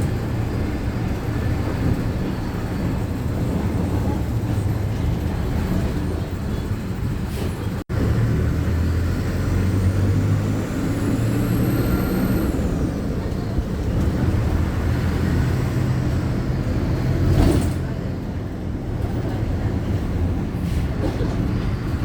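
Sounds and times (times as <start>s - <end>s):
bus engine rumble: 0.0s - 22.0s
road noise: 0.0s - 22.0s.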